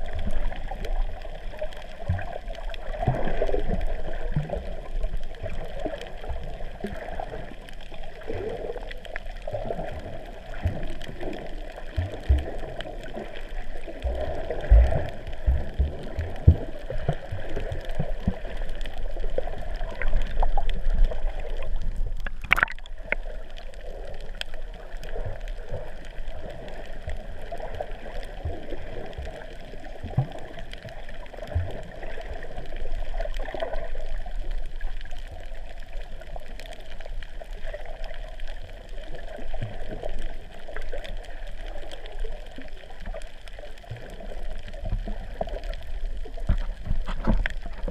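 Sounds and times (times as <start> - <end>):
muffled underwater gurgling: 0.0 - 47.9.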